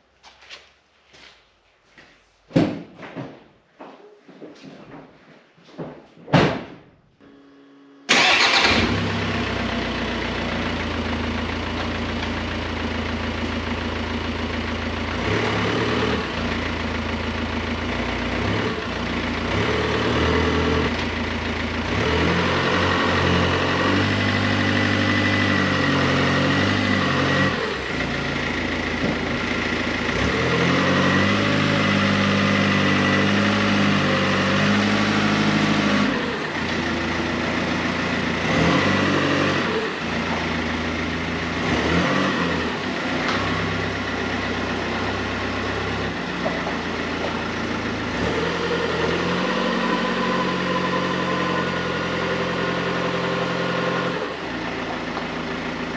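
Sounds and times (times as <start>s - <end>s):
diesel engine starting and running: 7.2s - 55.9s.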